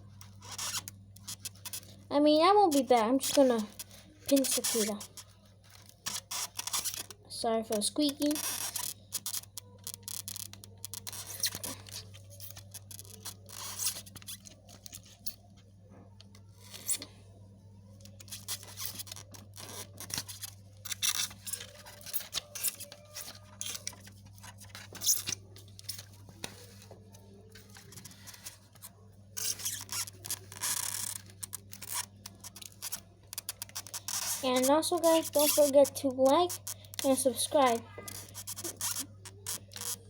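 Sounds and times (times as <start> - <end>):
pins squeaking and scraping: 0.0 - 40.0.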